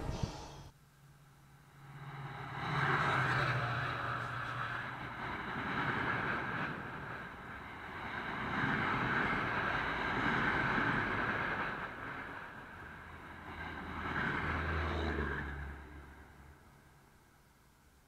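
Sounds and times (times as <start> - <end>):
train wheels rumbling on rails: 1.8 - 16.8.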